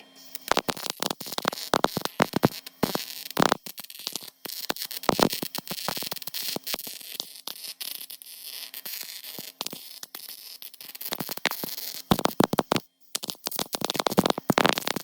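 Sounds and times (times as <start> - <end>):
welder crackling and popping: 0.0 - 15.0.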